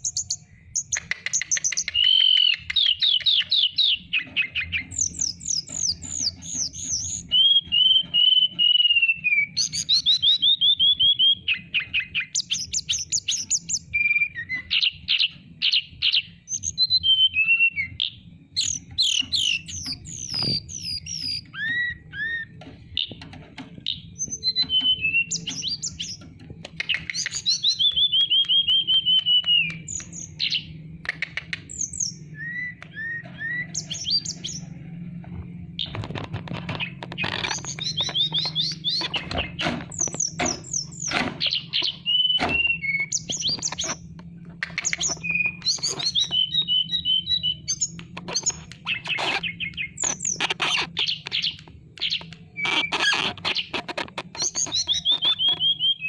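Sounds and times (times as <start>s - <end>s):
songbird singing: 0.0s - 56.0s
steady low hum: 2.6s - 56.0s.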